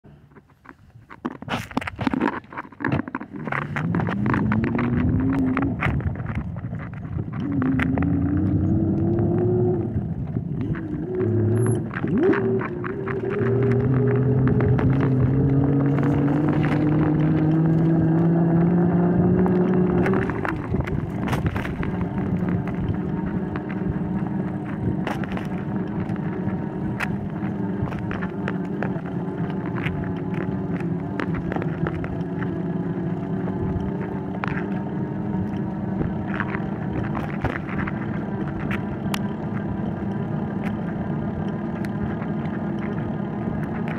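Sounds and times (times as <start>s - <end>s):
road noise: 0.0s - 43.9s
vehicle motor humming: 3.0s - 43.9s.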